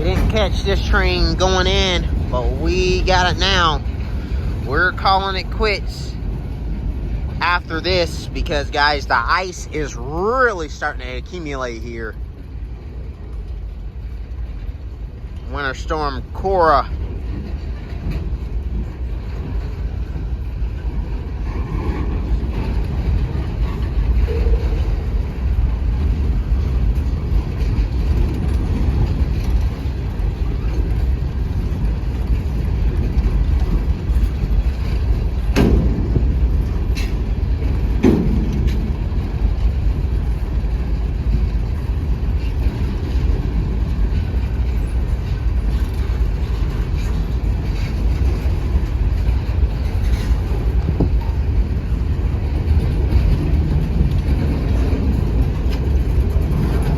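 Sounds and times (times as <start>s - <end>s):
freight train rumbling: 0.0s - 56.9s.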